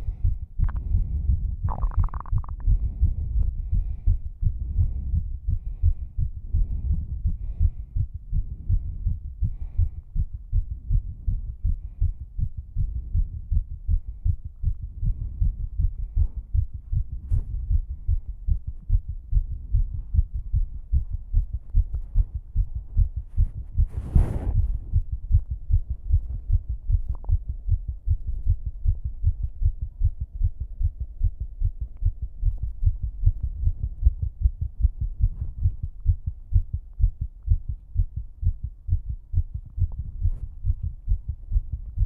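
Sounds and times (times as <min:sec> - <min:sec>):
rapid heartbeat thumps: 0:00.0 - 0:42.0.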